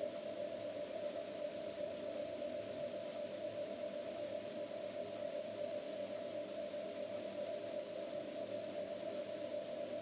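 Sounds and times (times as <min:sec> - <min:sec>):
steady mid-pitched hum: 0:00.0 - 0:10.0.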